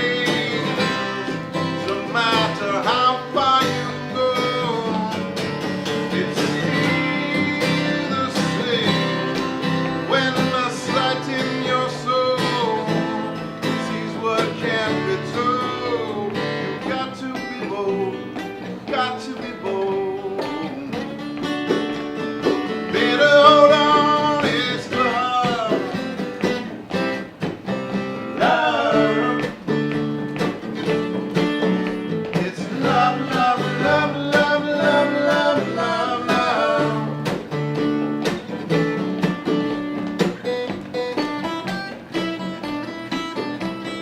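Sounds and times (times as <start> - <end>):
guitar strumming: 0.0 - 44.0.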